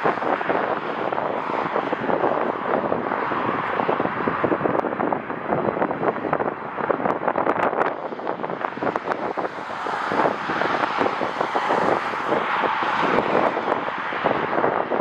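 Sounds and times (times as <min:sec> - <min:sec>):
jet engines rushing: 0:00.0 - 0:14.8
wind buffeting microphone: 0:00.0 - 0:15.0.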